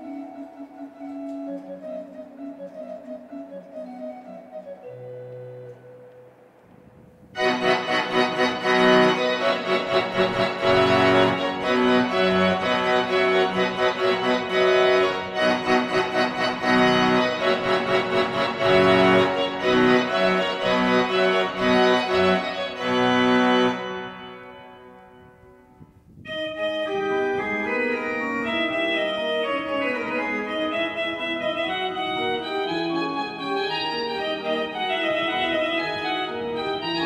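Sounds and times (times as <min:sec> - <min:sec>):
organ music: 0:00.0 - 0:06.6, 0:07.4 - 0:37.0.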